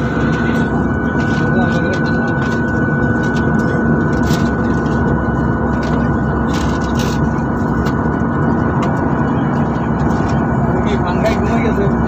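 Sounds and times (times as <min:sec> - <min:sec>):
constant cabin hum: 0:00.0 - 0:12.0
jet engine and airflow roar: 0:00.0 - 0:12.0.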